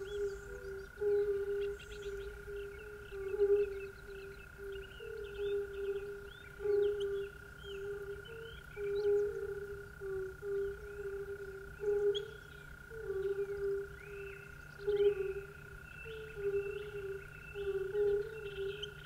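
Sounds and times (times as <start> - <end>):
frogs calling low notes: 0.0 - 19.0.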